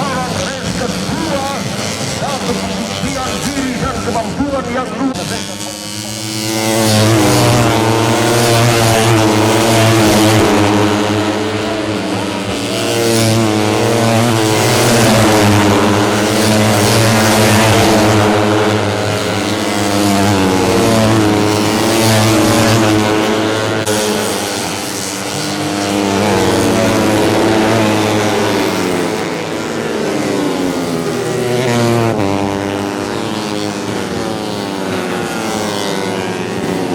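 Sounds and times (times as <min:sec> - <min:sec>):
motorcycle engines revving: 0:00.0 - 0:36.9.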